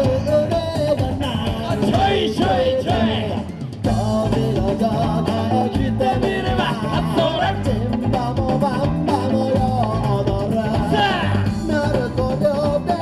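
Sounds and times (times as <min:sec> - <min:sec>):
steady drum beat: 0:00.0 - 0:13.0
upbeat dance music with singing: 0:00.0 - 0:13.0.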